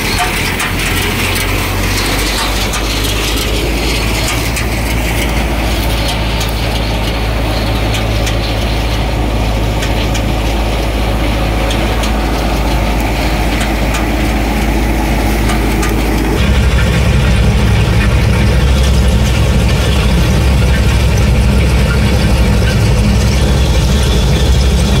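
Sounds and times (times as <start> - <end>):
combine harvester engine hum: 0.0 - 25.0.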